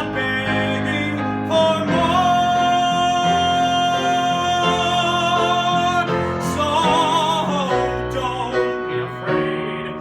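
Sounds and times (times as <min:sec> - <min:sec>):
man singing ballad: 0:00.0 - 0:10.0
piano accompaniment: 0:00.0 - 0:10.0.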